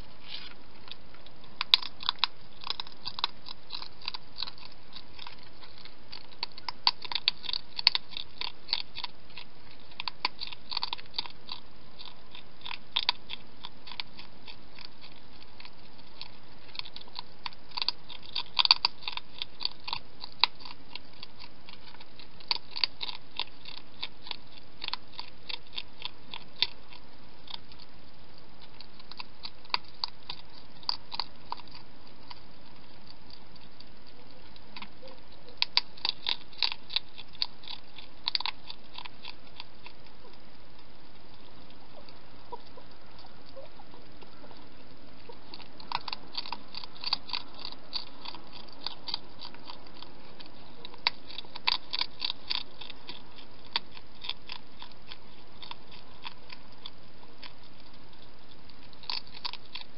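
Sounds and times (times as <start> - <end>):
hedgehog crunching food: 0.0 - 59.9.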